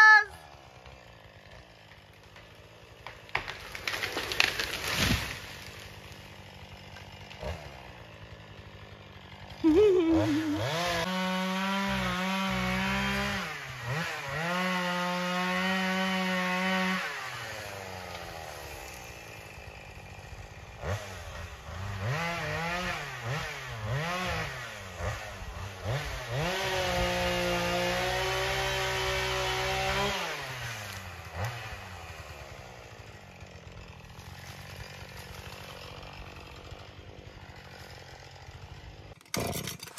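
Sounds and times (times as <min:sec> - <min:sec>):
chainsaw idling: 0:00.0 - 0:39.9
chainsaw revving: 0:00.0 - 0:39.9.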